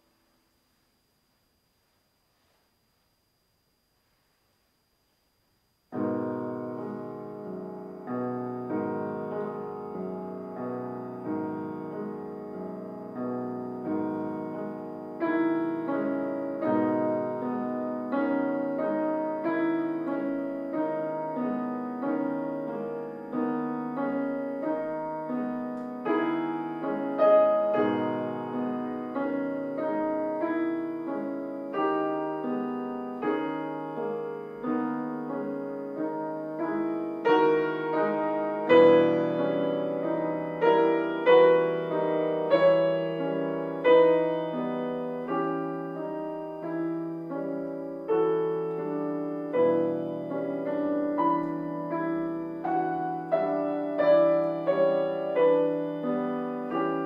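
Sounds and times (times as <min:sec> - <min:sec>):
solo classical piano: 0:04.7 - 0:57.0.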